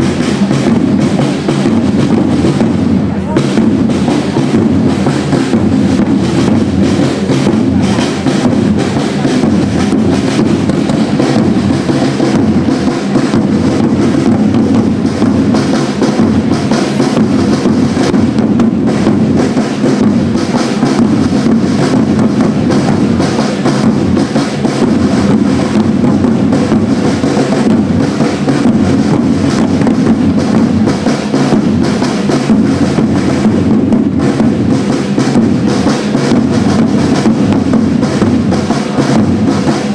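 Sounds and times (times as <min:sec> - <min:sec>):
marching side drums: 0:00.0 - 0:39.9.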